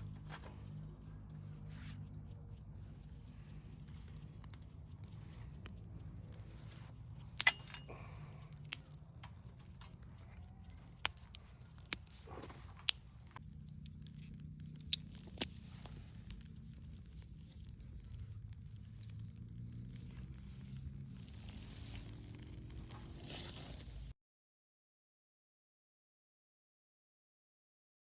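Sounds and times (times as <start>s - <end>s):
campfire crackling and popping: 0.0s - 24.1s
faint low rumble: 0.0s - 24.1s.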